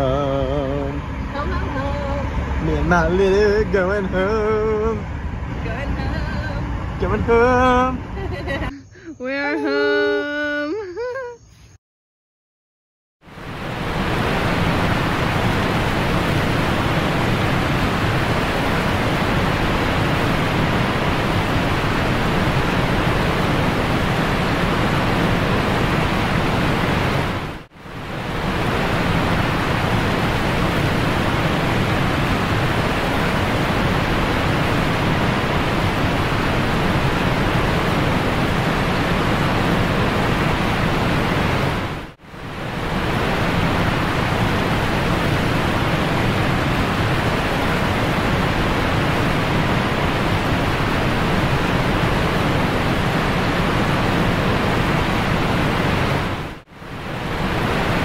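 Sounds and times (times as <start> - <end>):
loud rushing noise: 0.0 - 8.6, 13.3 - 58.0.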